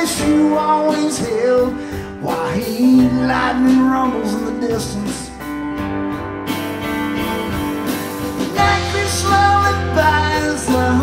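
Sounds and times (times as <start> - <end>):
live band slow instrumental: 0.0 - 11.0.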